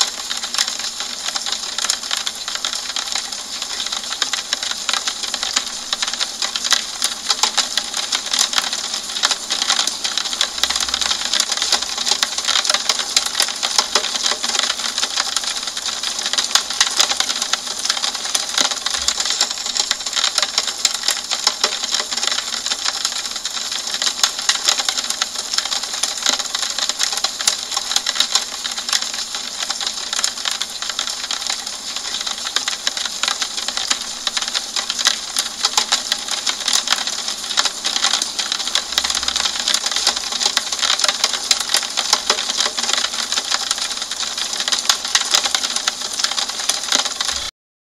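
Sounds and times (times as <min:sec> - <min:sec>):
rain pattering on a window: 0:00.0 - 0:47.5.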